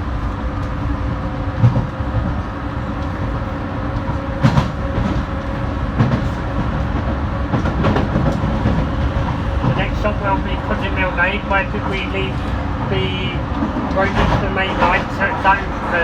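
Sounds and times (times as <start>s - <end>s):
train rumbling inside carriage: 0.0s - 16.0s.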